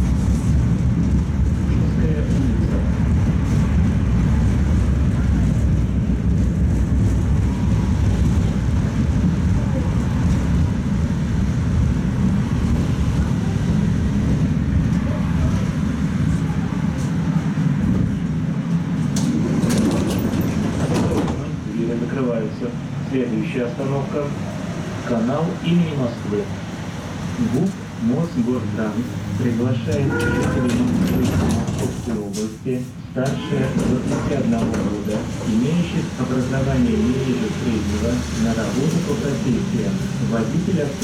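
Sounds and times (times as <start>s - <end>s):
tram wheels rumbling: 0.0s - 41.0s.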